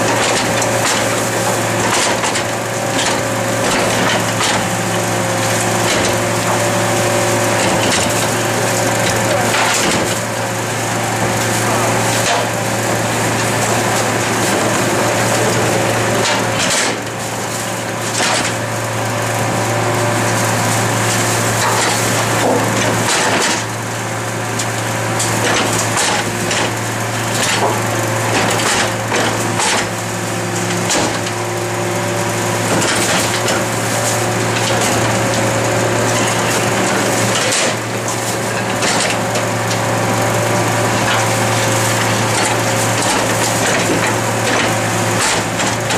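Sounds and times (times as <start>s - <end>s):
compactor crunching refuse: 0.0s - 45.9s
garbage truck engine and hydraulics: 0.0s - 45.9s
wheeled bins clattering: 0.0s - 45.9s.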